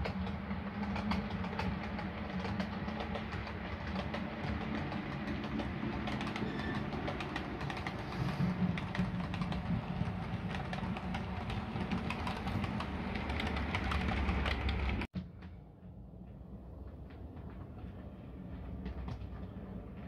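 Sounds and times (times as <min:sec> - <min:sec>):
model train hum: 0:00.0 - 0:20.0
wheels clicking on rails: 0:00.0 - 0:20.0.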